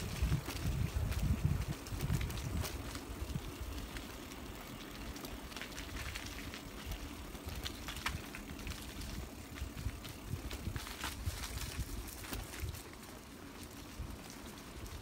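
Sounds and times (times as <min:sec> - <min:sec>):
bicycle tyres on paved path: 0:00.0 - 0:15.0
clicks and ticks from bike: 0:00.0 - 0:15.0.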